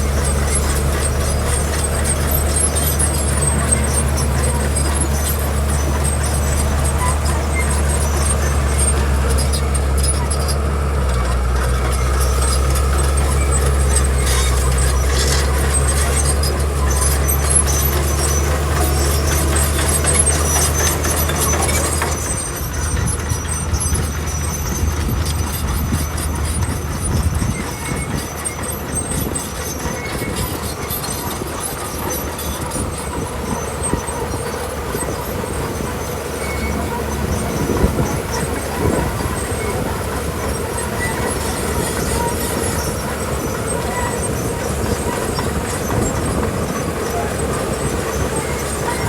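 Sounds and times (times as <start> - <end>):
bulldozer diesel engine drone: 0.0 - 49.0
tracks clanking and rattling: 0.0 - 49.0.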